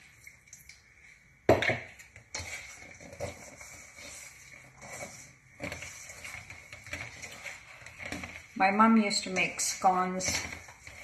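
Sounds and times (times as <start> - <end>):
hands squeezing wet dough: 0.0 - 11.0.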